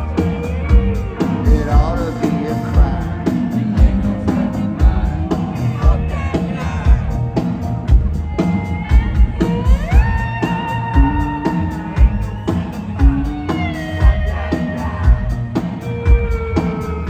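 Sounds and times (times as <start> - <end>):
drums on a steady beat: 0.0 - 17.0
electric guitars: 0.0 - 17.0.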